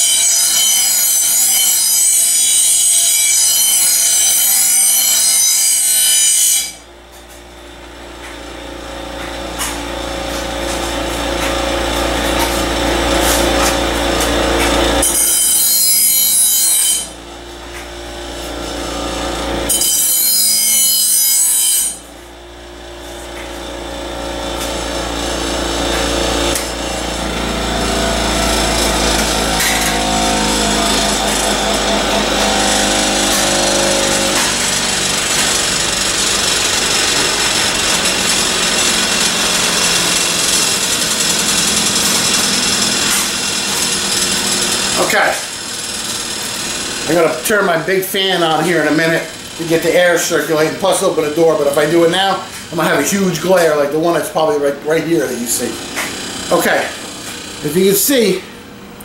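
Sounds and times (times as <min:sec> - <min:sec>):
harsh grinding of metal blade: 0:00.0 - 0:07.4, 0:08.2 - 0:22.1, 0:22.9 - 0:58.8
bench grinder motor hum: 0:00.0 - 0:59.0.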